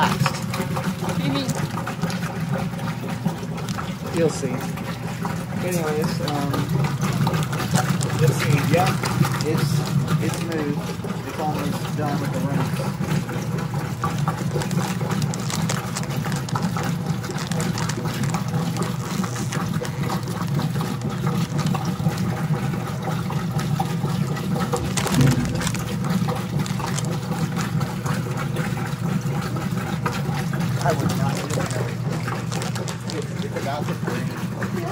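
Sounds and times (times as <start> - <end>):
washing machine motor hum: 0.0 - 34.9
water sloshing in tub: 0.0 - 34.9.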